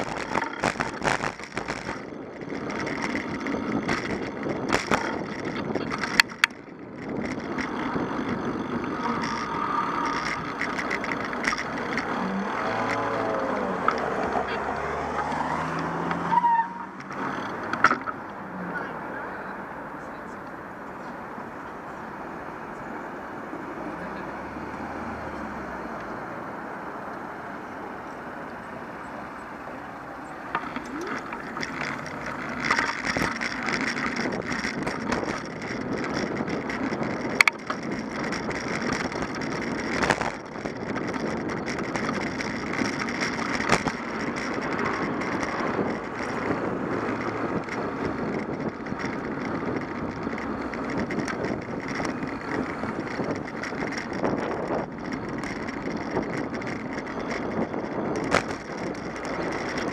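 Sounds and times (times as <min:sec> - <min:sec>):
bike rattling over pavement: 0:00.0 - 0:20.0, 0:22.7 - 0:59.9
street traffic: 0:00.0 - 0:59.9.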